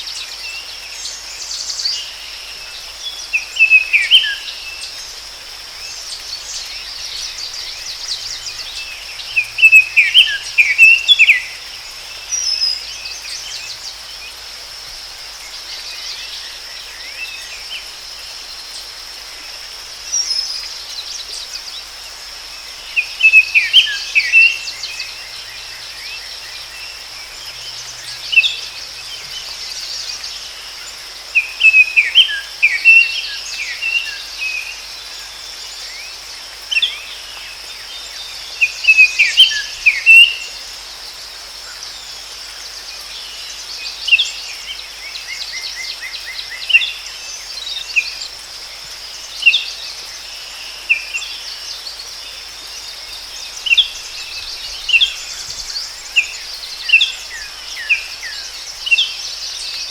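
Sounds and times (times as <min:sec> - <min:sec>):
forest birds chirping: 0:00.0 - 0:59.9
insects buzzing: 0:00.0 - 0:59.9.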